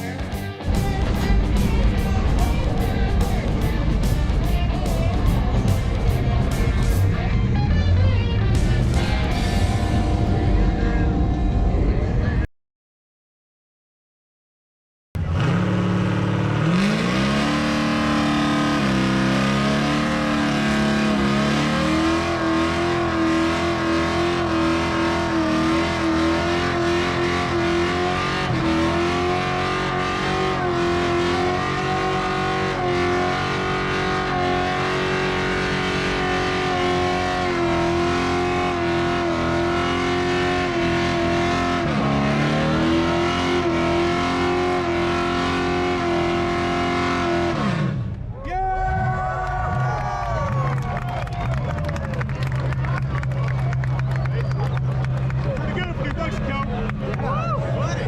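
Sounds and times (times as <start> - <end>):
truck engine revving: 0.0 - 12.3, 15.2 - 48.3, 49.7 - 58.0.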